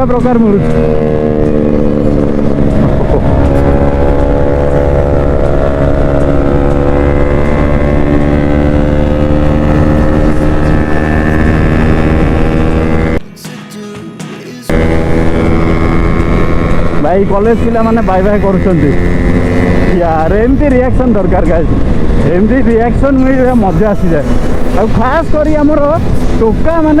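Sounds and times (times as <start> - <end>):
motorcycle engine running: 0.0 - 13.2, 14.7 - 27.0.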